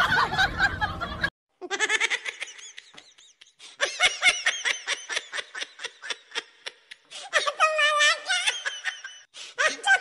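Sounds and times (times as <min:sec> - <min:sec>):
person giggling: 0:01.6 - 0:10.0.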